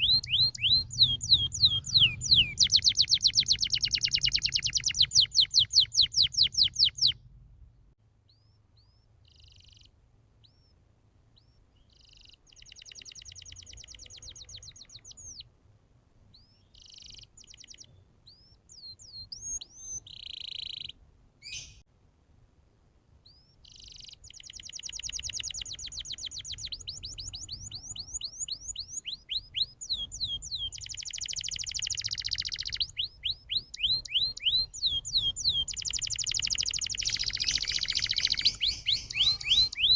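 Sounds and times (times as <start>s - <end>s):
canary singing trills: 0.0s - 7.2s, 8.3s - 15.5s, 16.3s - 21.8s, 23.2s - 39.9s.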